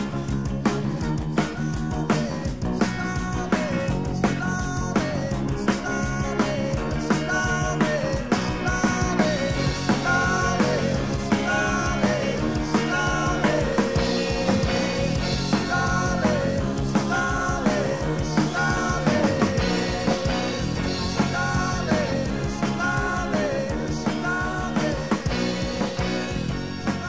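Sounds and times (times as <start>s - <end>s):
live rock band music: 0.0s - 27.0s.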